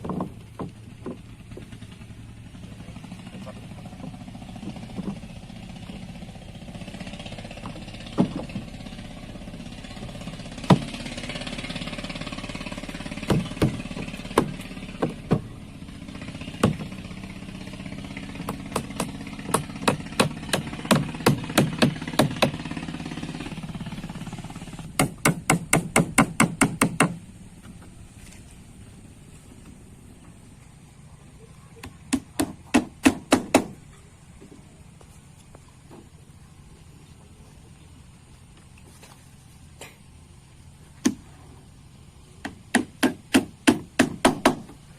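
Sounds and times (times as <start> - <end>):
motor hum: 0.0 - 44.9.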